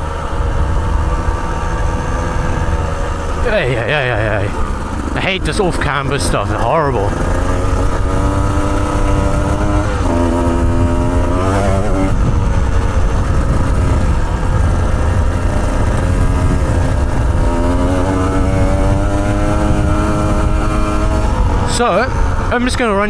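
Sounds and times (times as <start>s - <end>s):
dirt bike engine running: 0.0s - 23.0s
heavy low rumble: 0.0s - 23.0s.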